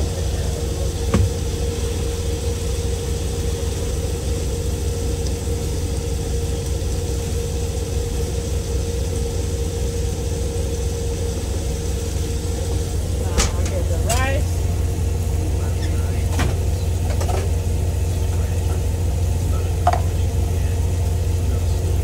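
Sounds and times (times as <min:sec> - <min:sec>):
constant hum: 0:00.0 - 0:22.0
diesel truck engine idling: 0:00.0 - 0:22.0.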